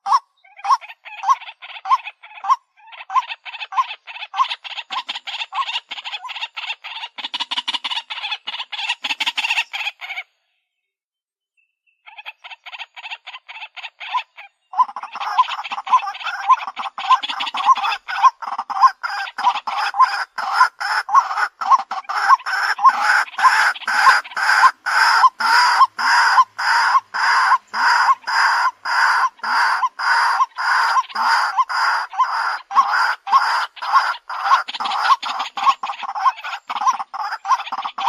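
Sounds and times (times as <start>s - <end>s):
waterhen calling harsh notes: 0.0s - 10.2s, 12.1s - 38.0s.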